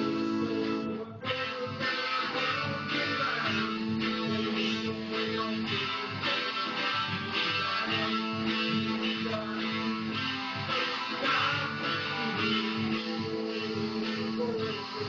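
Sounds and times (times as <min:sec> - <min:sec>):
electric guitar lead line: 0:00.0 - 0:15.0
rhythm guitar backing track: 0:00.0 - 0:15.0.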